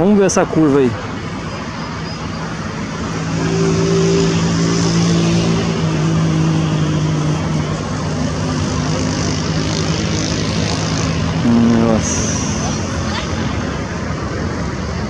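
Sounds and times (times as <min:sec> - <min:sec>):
wide background rush: 0:00.0 - 0:15.0
engine drone: 0:00.9 - 0:15.0.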